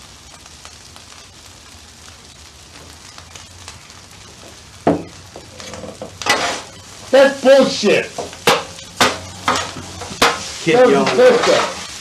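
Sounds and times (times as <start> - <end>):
rice sizzling on griddle: 0.0 - 12.0.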